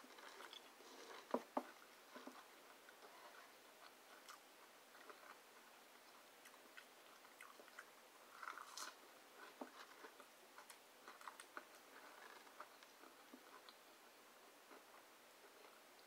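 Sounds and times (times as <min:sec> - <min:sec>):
person chewing: 0:00.0 - 0:03.1, 0:03.8 - 0:13.9.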